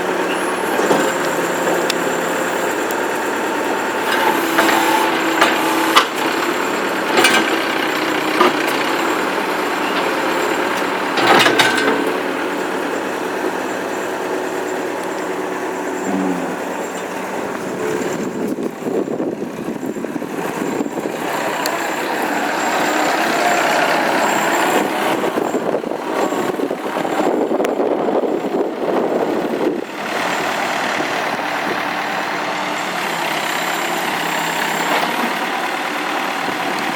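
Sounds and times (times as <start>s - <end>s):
backhoe engine running: 0.0s - 36.9s.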